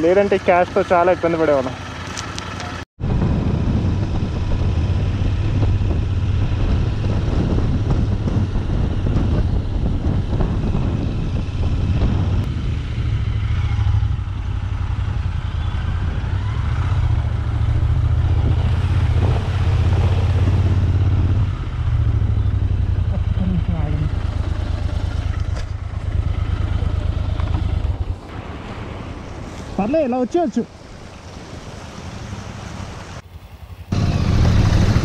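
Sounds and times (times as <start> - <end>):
motorcycle engine running: 0.0 - 28.3, 33.2 - 35.0.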